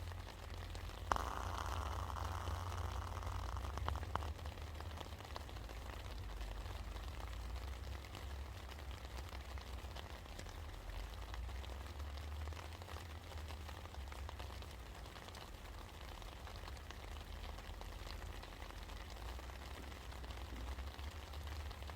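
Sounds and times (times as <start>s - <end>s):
rain pattering: 0.0s - 21.9s.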